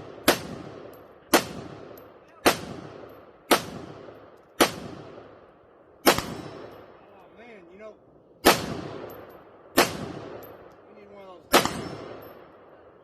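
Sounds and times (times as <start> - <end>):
rifle shots with echo: 0.0 - 7.0, 8.4 - 13.0.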